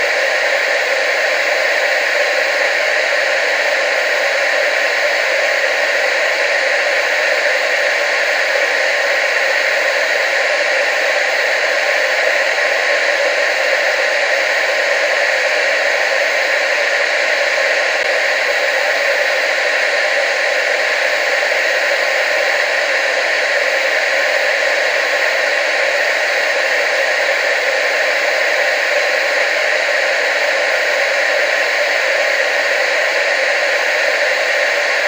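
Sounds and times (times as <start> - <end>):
tv static hiss: 0.0 - 35.0.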